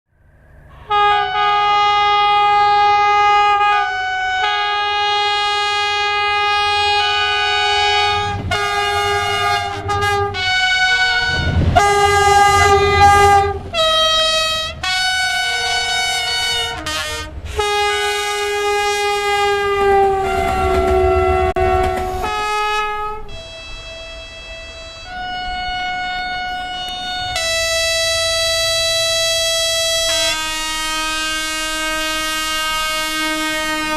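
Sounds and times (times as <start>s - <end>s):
train low rumble: 0.1s - 33.9s
train horns: 0.6s - 33.9s.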